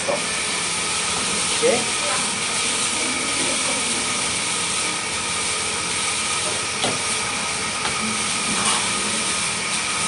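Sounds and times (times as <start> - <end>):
gas burner hissing: 0.0 - 10.0
noodles sizzling in a wok: 0.0 - 10.0.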